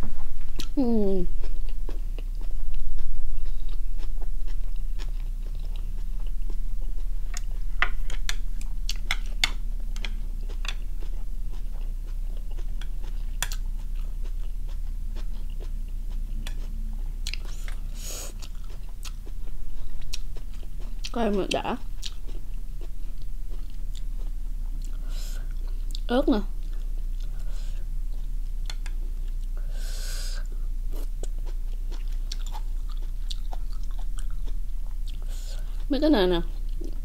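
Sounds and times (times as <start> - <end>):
close-up chewing: 0.0 - 29.7, 30.3 - 37.0
steady low hum: 0.0 - 37.0.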